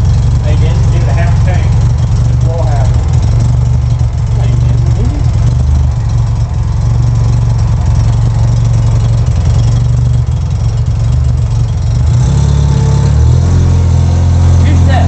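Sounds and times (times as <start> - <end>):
rotary engine idling: 0.0 - 15.0.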